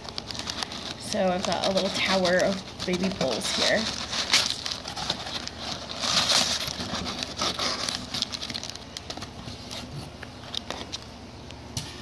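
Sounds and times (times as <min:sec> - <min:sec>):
newspaper rustling and crinkling: 0:00.0 - 0:11.2.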